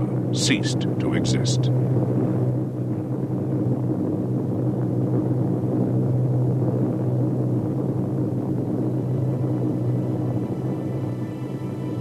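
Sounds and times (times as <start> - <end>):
aircraft engines droning: 0.0 - 12.0.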